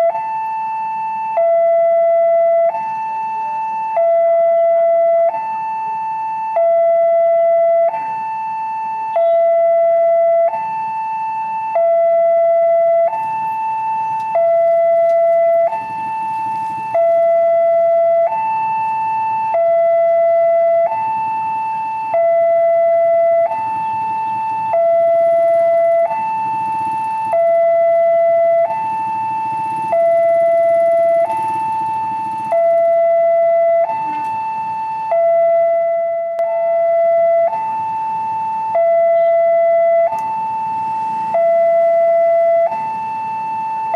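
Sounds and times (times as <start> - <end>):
faint engine and traffic rumble: 0.0 - 43.9
two-tone crossing alarm: 0.0 - 43.9.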